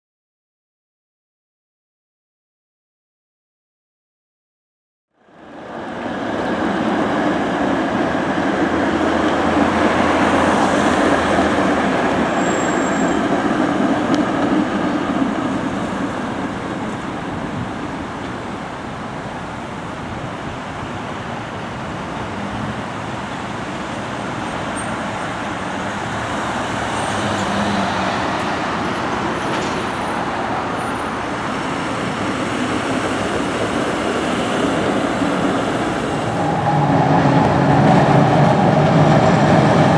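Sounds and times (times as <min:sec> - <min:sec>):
city street traffic: 0:05.2 - 0:39.9.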